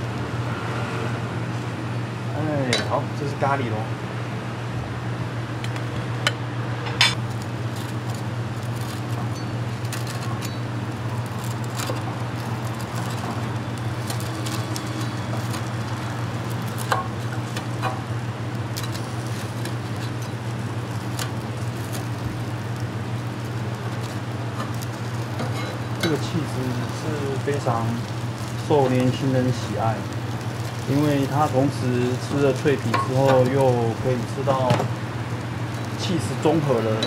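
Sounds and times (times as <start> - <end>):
kitchen background hum: 0.0 - 37.0.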